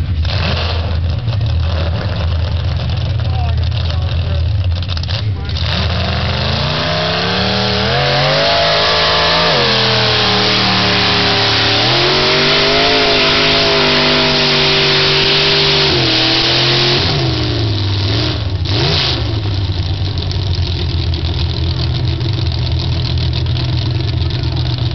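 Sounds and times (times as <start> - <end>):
pickup truck engine revving: 0.0 - 24.9.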